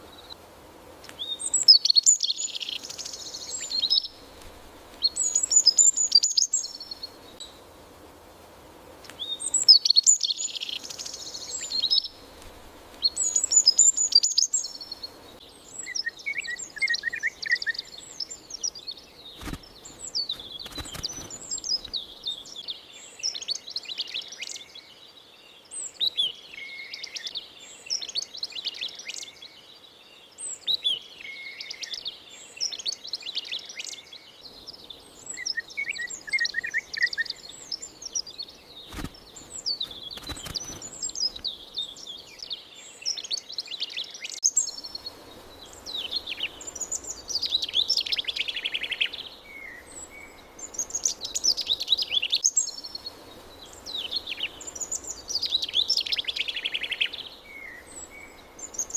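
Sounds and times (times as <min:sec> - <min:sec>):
songbirds chirping: 0:00.0 - 0:58.9.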